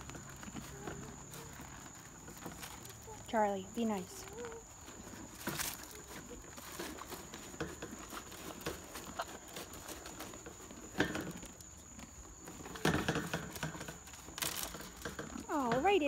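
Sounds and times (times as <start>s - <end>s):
horse crunching feed: 0.0s - 16.0s.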